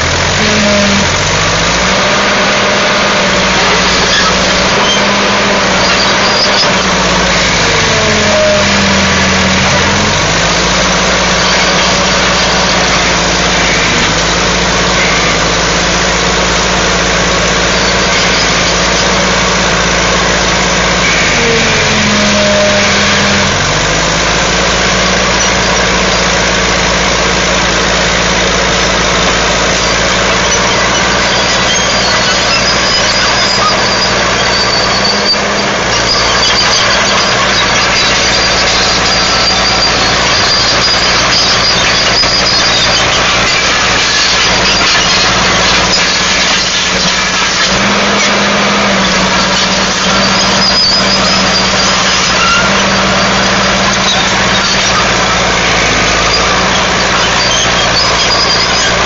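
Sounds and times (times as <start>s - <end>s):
diesel engine running: 0.0s - 59.0s
loader pushing through brush: 0.0s - 59.0s.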